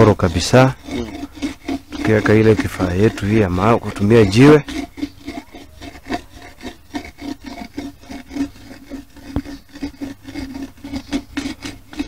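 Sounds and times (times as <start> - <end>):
stone rubbing on clay pot: 0.0 - 12.0.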